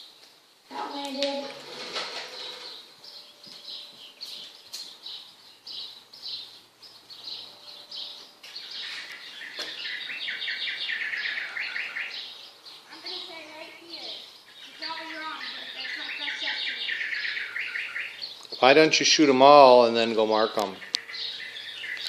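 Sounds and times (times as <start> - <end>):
birds chirping: 0.0 - 22.0
low bird trill: 2.2 - 18.6, 20.7 - 22.0.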